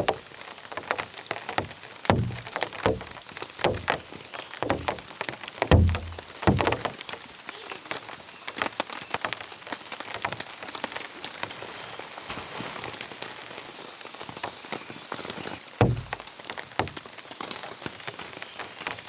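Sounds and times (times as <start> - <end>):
raindrops landing close by: 0.0 - 11.6, 15.2 - 19.0
steady rain falling: 0.0 - 19.0.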